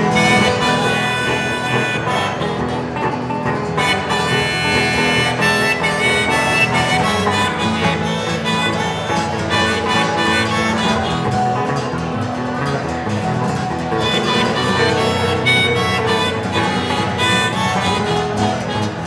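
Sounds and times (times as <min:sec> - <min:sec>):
acoustic guitars strumming: 0:00.0 - 0:19.0
harmonica bending notes: 0:00.0 - 0:19.0.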